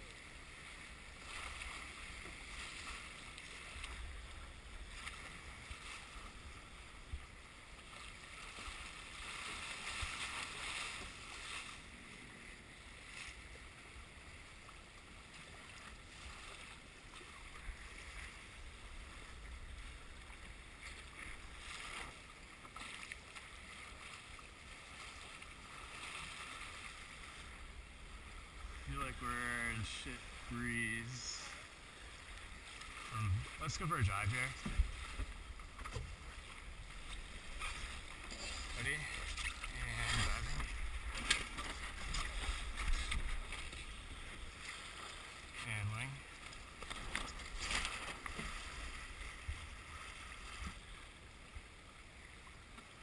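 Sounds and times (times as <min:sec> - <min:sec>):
water rushing along hull: 0:00.0 - 0:53.0.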